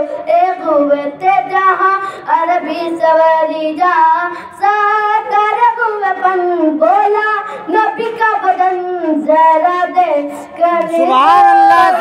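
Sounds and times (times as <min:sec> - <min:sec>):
boy singing devotional song: 0:00.0 - 0:12.0.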